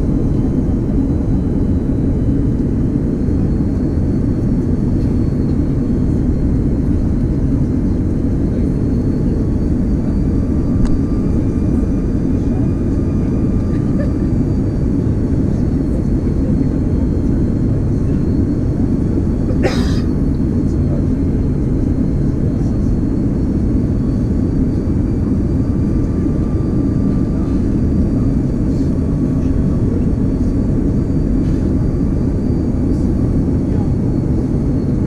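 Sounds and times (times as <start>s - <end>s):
aircraft engines and airflow in cabin: 0.0s - 35.0s.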